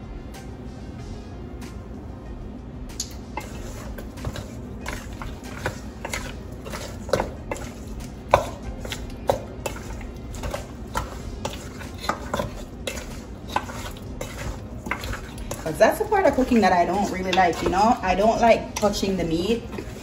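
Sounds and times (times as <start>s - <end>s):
spoon scraping a bowl: 3.4s - 20.0s.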